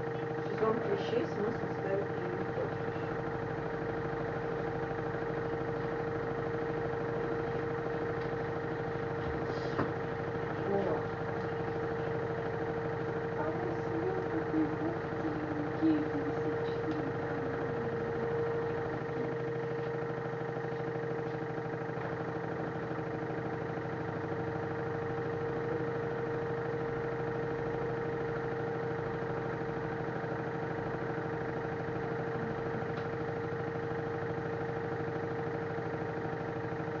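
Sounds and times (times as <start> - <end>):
washing machine spin cycle whine: 0.0 - 37.0.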